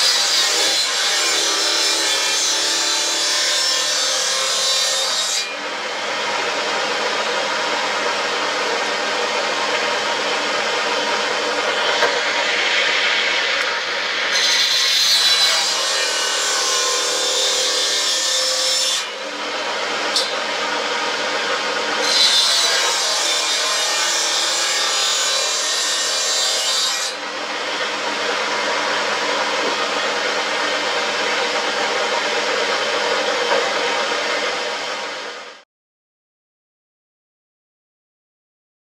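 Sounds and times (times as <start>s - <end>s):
circular saw cutting wood: 0.0s - 35.6s.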